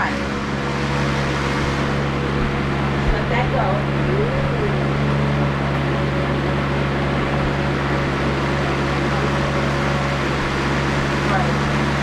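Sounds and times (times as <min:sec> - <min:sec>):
blender motor humming: 0:00.0 - 0:12.0.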